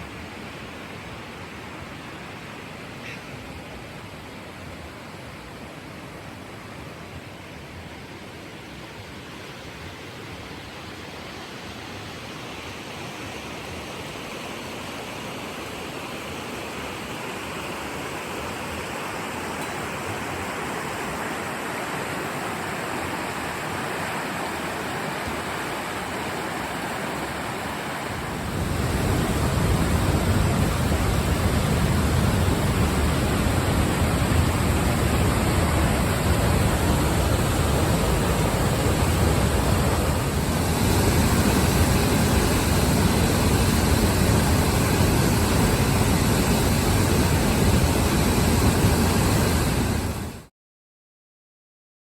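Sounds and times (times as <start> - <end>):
waterfall roaring: 0.0 - 50.5.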